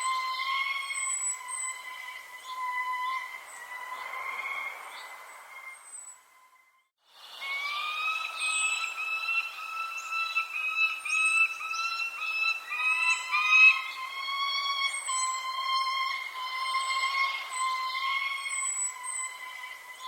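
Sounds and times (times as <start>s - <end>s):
high falling bird chirps: 0.0s - 20.0s.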